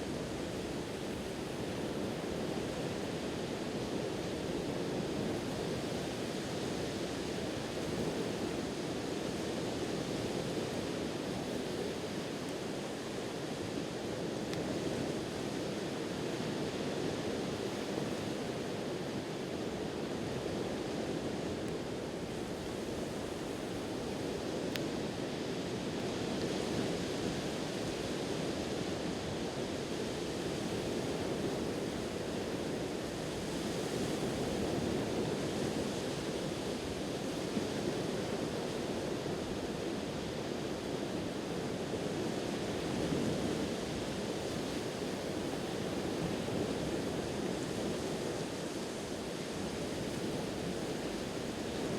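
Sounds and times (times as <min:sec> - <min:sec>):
ocean waves washing onto shore: 0:00.0 - 0:51.9.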